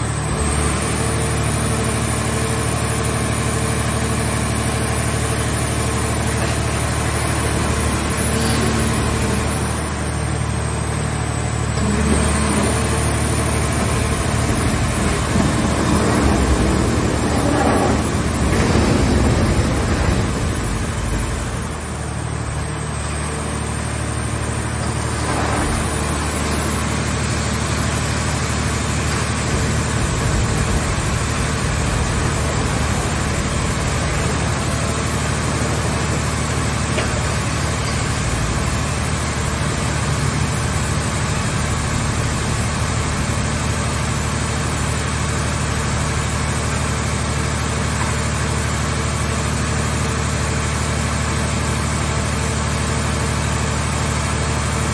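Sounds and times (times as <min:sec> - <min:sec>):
hydraulic machine hum: 0:00.0 - 0:54.9.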